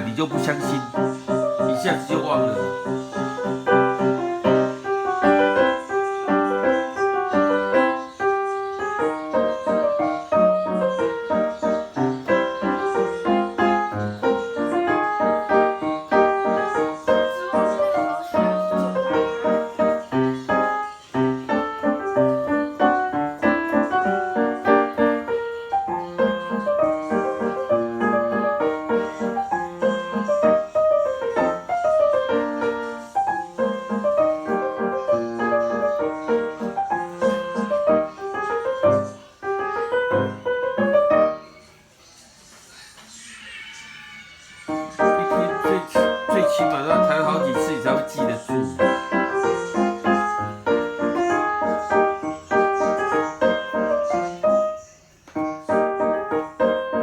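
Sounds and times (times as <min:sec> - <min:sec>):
piano melody over chords: 0:00.0 - 0:42.0, 0:44.7 - 0:57.0.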